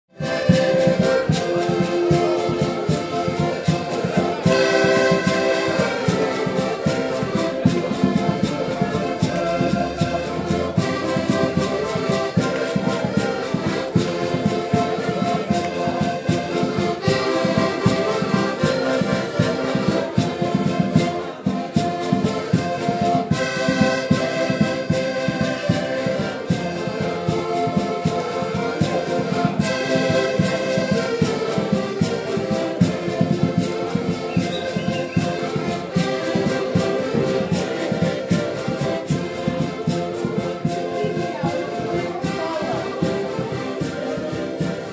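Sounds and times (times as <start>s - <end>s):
button accordions playing folk tune: 0.1s - 44.9s.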